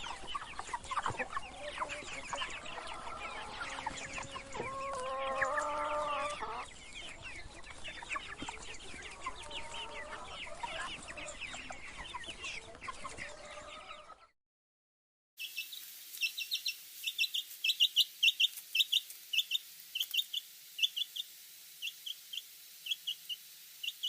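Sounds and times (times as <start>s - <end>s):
chicks peeping: 0.0s - 14.3s, 15.4s - 24.0s
hen clucking: 0.0s - 14.3s, 15.5s - 24.0s.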